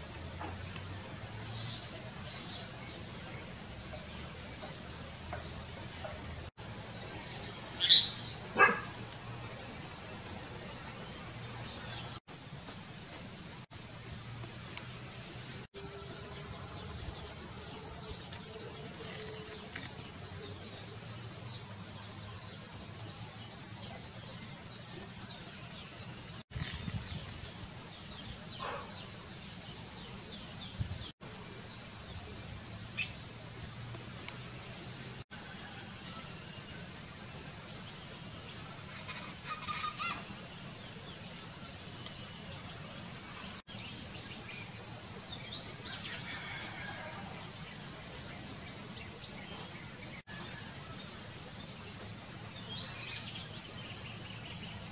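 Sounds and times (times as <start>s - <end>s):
faint outdoor background noise: 0.0s - 54.9s.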